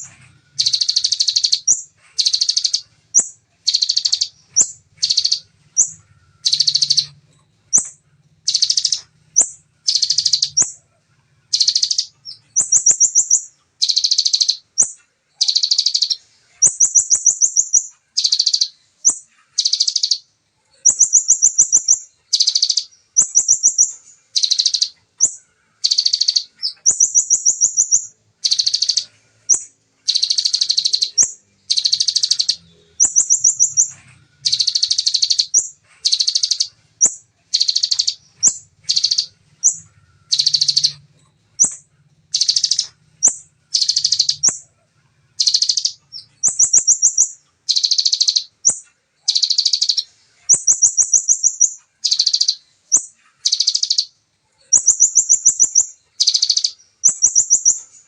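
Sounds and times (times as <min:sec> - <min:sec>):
bird singing rapid trills: 0:00.0 - 0:58.0.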